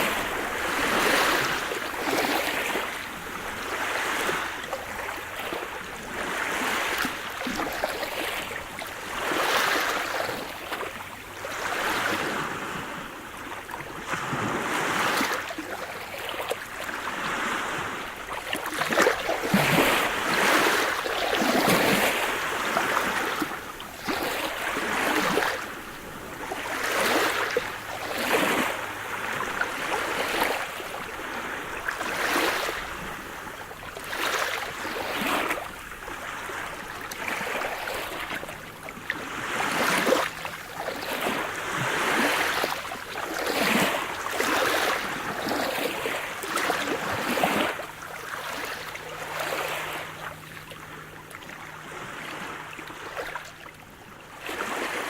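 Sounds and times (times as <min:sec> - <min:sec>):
small waves breaking: 0:00.0 - 0:55.0.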